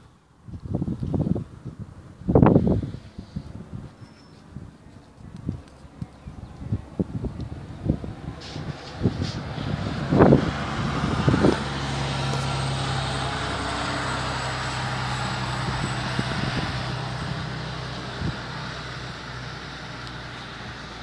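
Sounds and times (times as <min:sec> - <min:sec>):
vehicle engine humming: 0:00.3 - 0:21.0.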